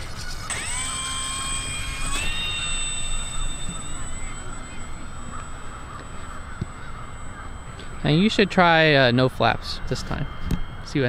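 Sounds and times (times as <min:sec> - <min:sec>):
electric motor and propeller whining: 0:00.0 - 0:11.0.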